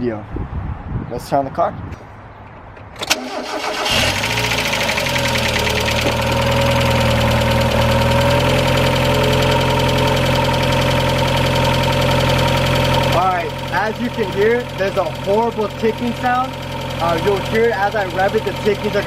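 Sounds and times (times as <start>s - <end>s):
car engine starting and idling: 2.8s - 19.0s
engine ticking: 3.0s - 19.0s.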